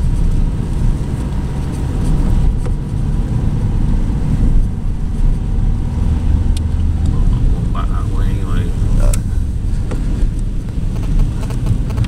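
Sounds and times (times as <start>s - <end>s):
engine and tyres on wet road: 0.0s - 12.0s.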